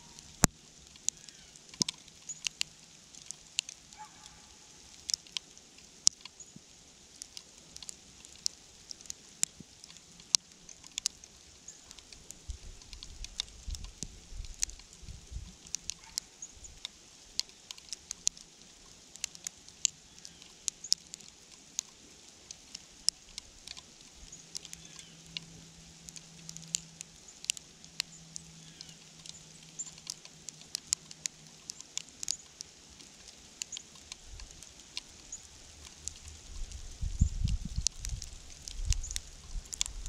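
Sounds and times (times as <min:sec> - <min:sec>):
faint outdoor hiss: 0:00.0 - 0:40.0
icy precipitation ticking: 0:00.0 - 0:40.0.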